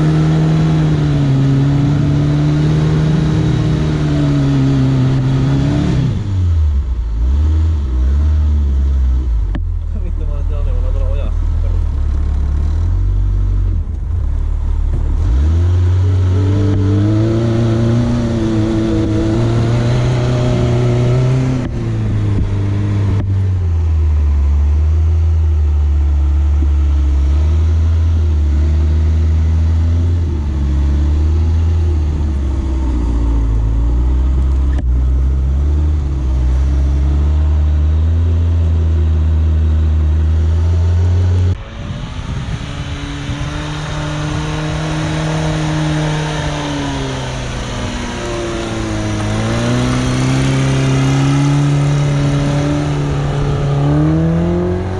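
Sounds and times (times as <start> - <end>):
car engine under throttle: 0.0 - 54.9.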